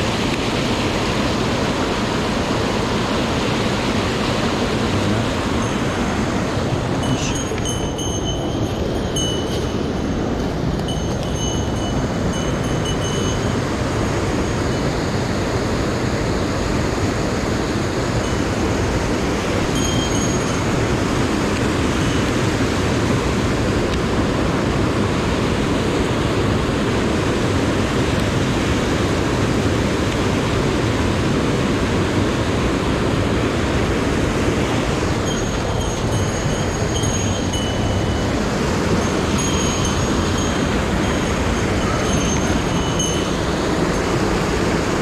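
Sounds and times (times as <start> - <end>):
mountain stream rushing: 0.0 - 45.0.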